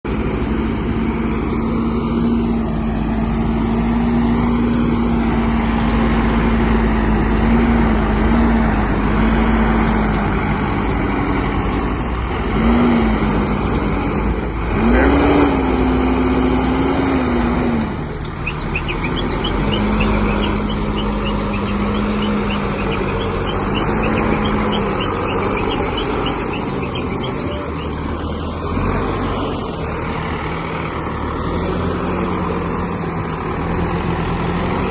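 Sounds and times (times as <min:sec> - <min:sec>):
diesel engine running and revving: 0:00.0 - 0:34.9.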